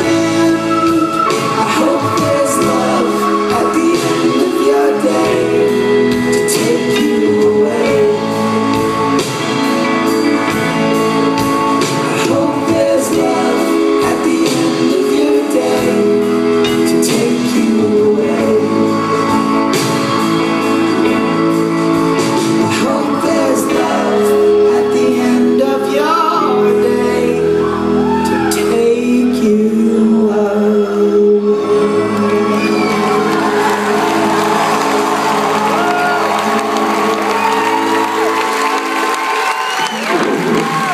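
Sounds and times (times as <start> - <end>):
person singing: 0.0 - 38.4
drums: 0.0 - 40.9
guitars: 0.0 - 40.9
keyboards: 0.0 - 40.9.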